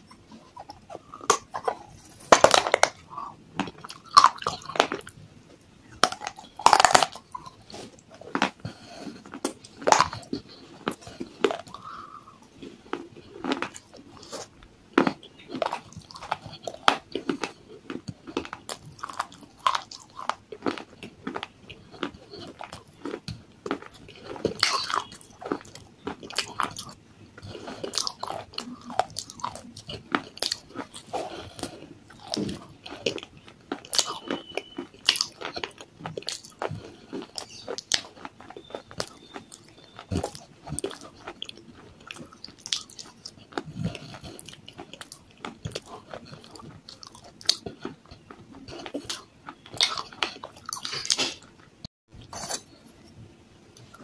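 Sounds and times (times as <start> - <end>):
crisp crunching in mouth: 0.5 - 5.2, 5.9 - 51.5
wet squishing chewing: 5.8 - 52.9.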